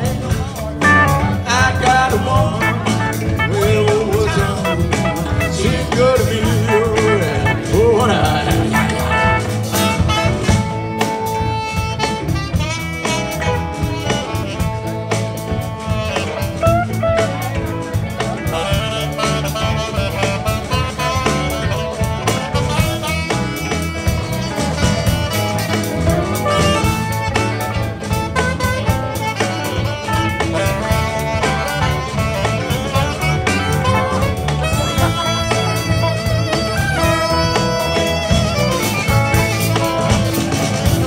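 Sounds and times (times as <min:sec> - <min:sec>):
blues band playing: 0:00.0 - 0:41.0
melodic solo line: 0:00.8 - 0:41.0.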